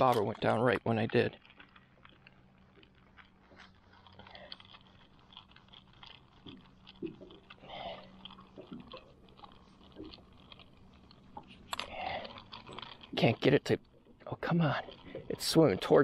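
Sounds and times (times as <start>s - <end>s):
fishing reel clicking: 0.0s - 16.0s
fishing reel rubbing: 0.0s - 16.0s
low steady hum: 0.0s - 16.0s.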